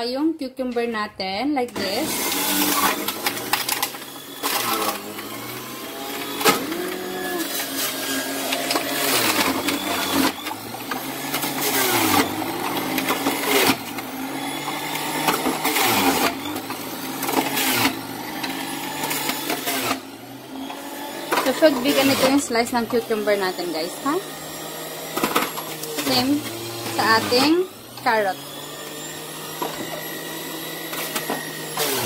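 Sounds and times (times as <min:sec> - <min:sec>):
vegetables grinding in juicer: 0:01.6 - 0:32.0
juicer motor running: 0:01.7 - 0:32.0.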